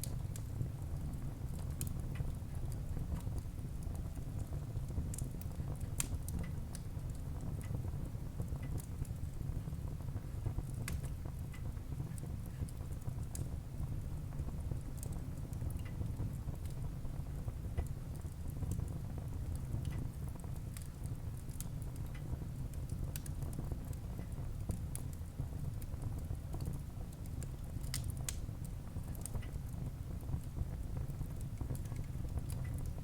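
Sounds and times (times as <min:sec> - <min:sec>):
fire crackling and popping: 0:00.0 - 0:33.0
fire rumbling: 0:00.0 - 0:33.0.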